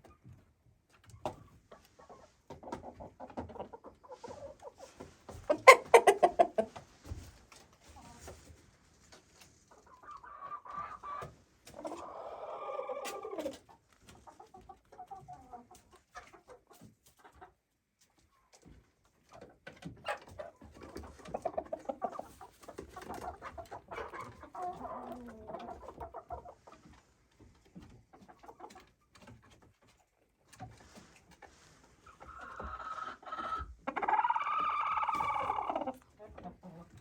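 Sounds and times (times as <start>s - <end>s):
chickens clucking and calling: 0.0s - 37.0s.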